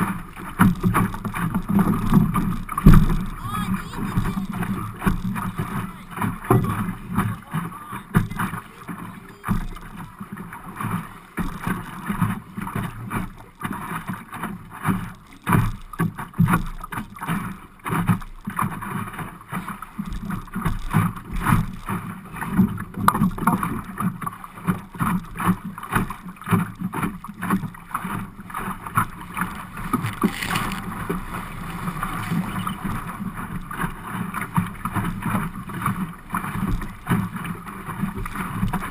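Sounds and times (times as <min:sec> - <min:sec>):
boat hull slapping water: 0:00.0 - 0:38.9.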